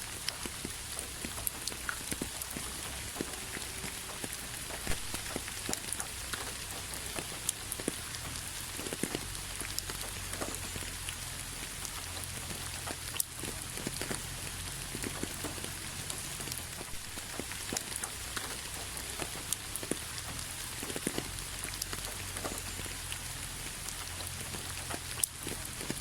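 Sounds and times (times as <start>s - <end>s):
rain falling: 0.0s - 26.0s
raindrops clicking: 0.0s - 26.0s.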